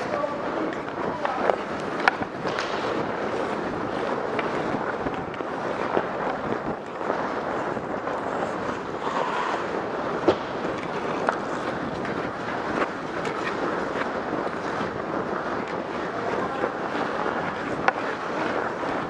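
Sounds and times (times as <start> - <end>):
skates scraping on ice: 0.0 - 19.0
sharp clicks on ice: 0.6 - 19.0.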